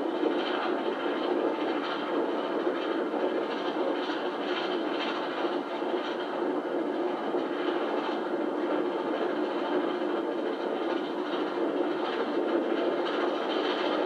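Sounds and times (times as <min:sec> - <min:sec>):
train rumble: 0:00.0 - 0:14.0
train wheel clatter: 0:00.0 - 0:14.0.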